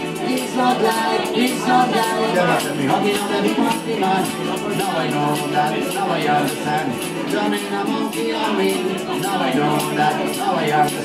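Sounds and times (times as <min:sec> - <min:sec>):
acoustic guitars: 0:00.0 - 0:11.0
man singing: 0:00.0 - 0:11.0
strummed ukulele: 0:00.0 - 0:11.0.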